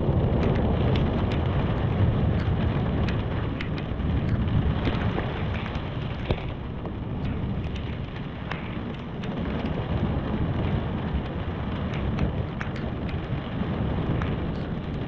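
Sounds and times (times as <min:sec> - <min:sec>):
low rumble: 0:00.0 - 0:15.0
rain falling: 0:00.0 - 0:15.0
raindrops ticking near microphone: 0:00.0 - 0:15.0.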